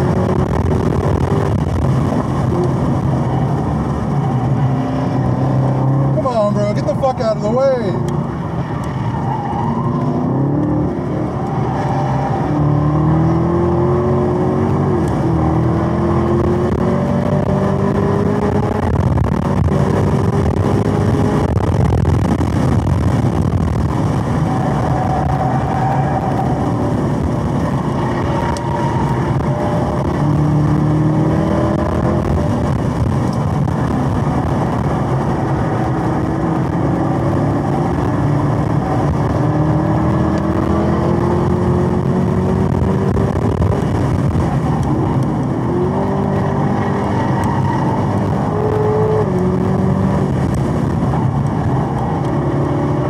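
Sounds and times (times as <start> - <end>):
car engine accelerating: 0.0 - 53.0
tyre and wind noise: 0.0 - 53.0.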